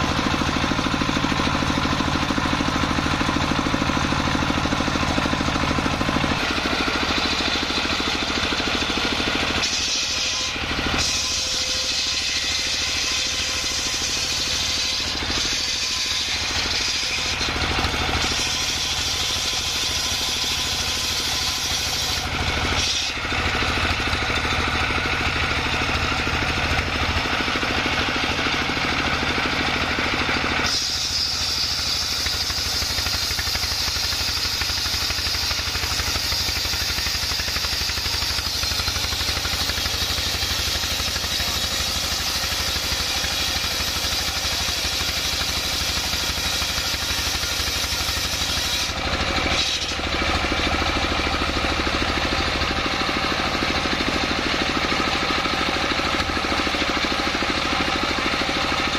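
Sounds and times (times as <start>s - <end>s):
engine beating under load: 0.0s - 58.9s
saw blade cutting wood: 0.0s - 58.9s.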